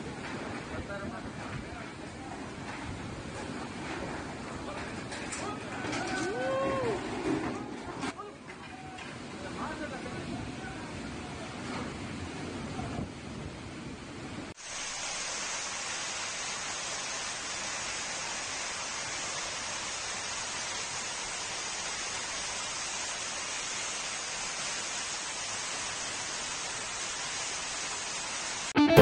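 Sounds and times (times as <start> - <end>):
rainwater rushing down steps: 0.0 - 13.3, 14.5 - 28.8
storm rain and wind: 0.0 - 28.8.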